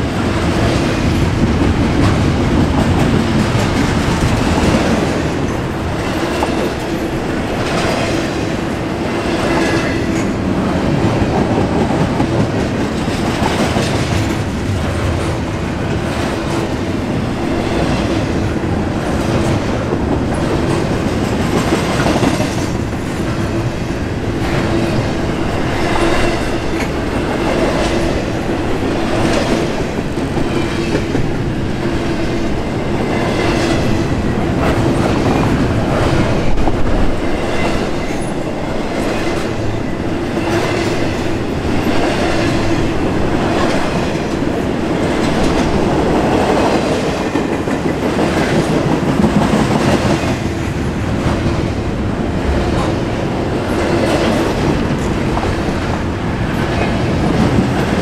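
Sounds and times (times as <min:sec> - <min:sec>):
clickety-clack of rails: 0:00.0 - 0:58.0
train wheels rumbling on rail: 0:00.0 - 0:58.0.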